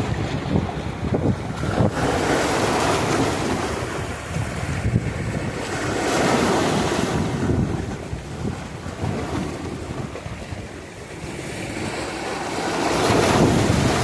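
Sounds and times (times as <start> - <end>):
ocean waves washing: 0.0 - 14.0
wind buffeting microphone: 0.0 - 14.0.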